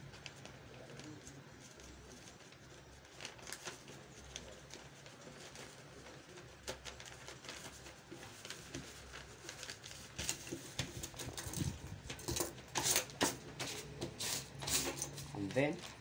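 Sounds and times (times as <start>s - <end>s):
paper rustling and crackling: 0.0s - 16.0s.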